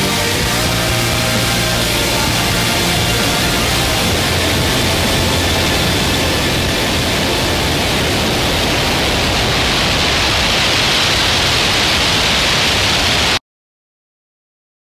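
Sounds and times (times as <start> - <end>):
loud static-like rushing noise: 0.0 - 13.4.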